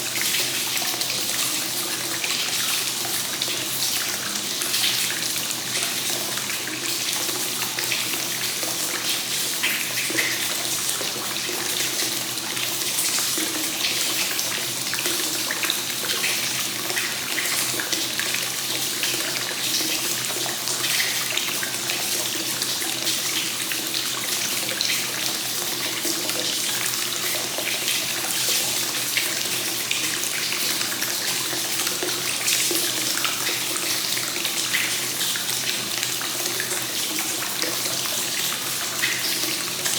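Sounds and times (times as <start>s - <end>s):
water pouring into a bath: 0.0s - 39.9s.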